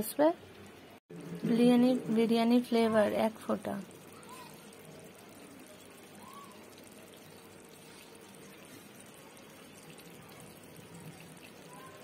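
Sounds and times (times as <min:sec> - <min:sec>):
curry simmering hiss: 0:01.1 - 0:12.0.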